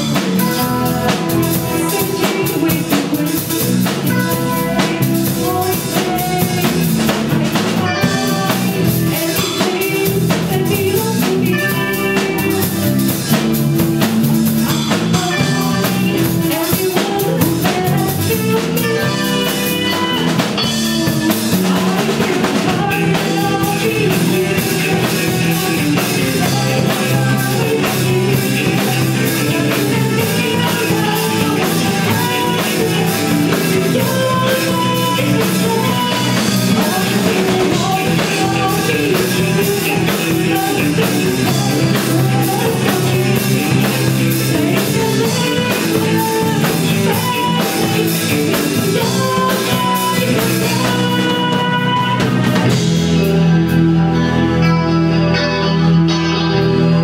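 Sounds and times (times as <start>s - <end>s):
drum kit beat: 0.0s - 54.1s
electric guitars: 0.0s - 57.0s
rock band playing live: 0.0s - 57.0s.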